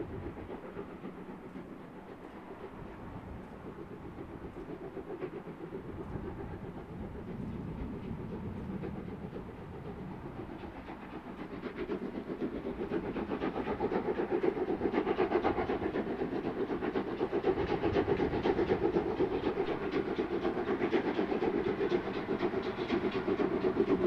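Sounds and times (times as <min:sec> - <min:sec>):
steam locomotive exhaust beats: 0:00.0 - 0:24.0.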